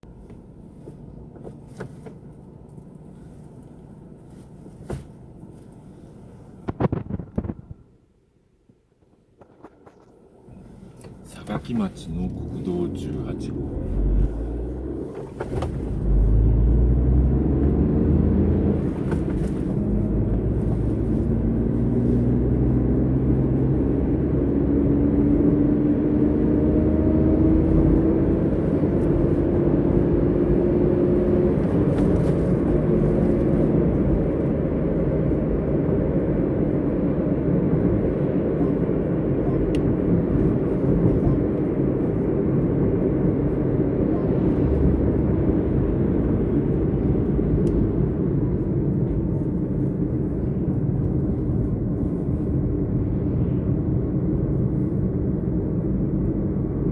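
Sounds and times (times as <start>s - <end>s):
vehicle engine: 0.0s - 7.8s, 9.4s - 56.9s
road rumble: 0.0s - 56.9s.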